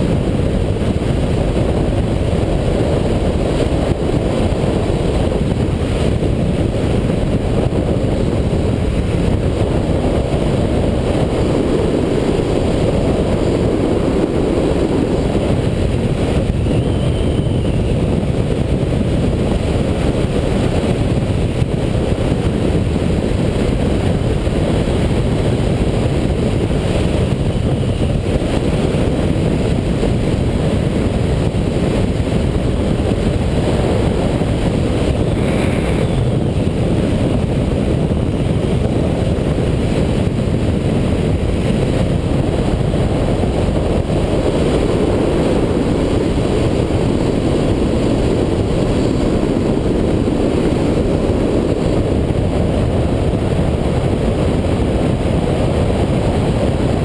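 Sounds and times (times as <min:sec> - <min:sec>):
motorcycle engine running: 0:00.0 - 0:52.8
wind rushing over microphone: 0:00.0 - 0:57.0.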